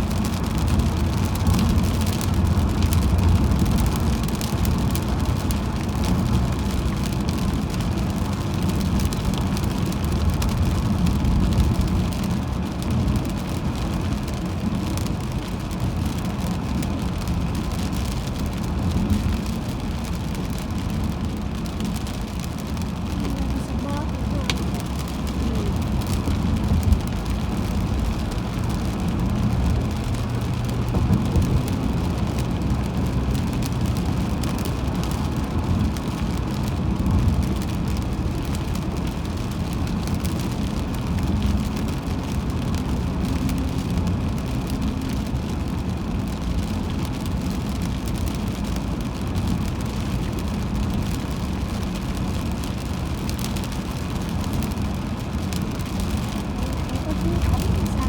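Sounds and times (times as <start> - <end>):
tyres and engine rumble: 0.0 - 58.0.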